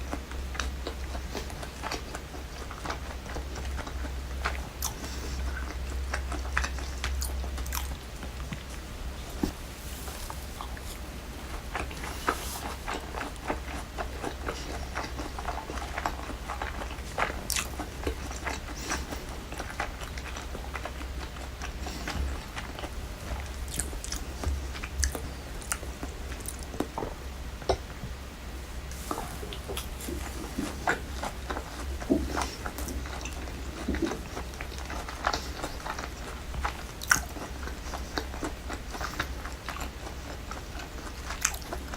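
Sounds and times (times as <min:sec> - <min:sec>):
crunchy chewing: 0:00.0 - 0:28.0, 0:28.9 - 0:41.9.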